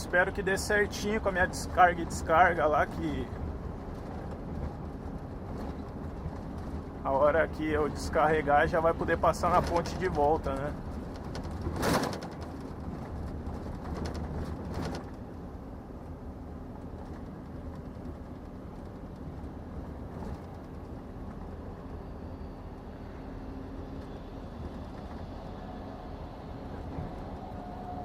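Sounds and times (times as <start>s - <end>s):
road noise: 0.0s - 28.0s
truck diesel engine drone: 0.0s - 28.0s.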